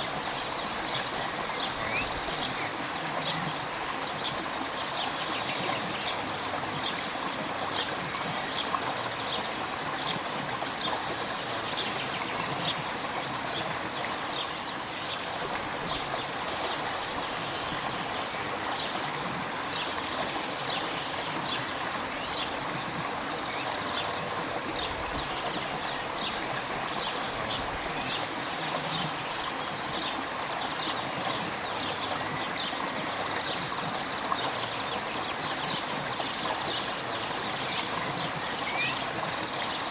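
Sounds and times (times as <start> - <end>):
river water rushing: 0.0 - 39.9
small splashes and trickles: 0.0 - 39.9.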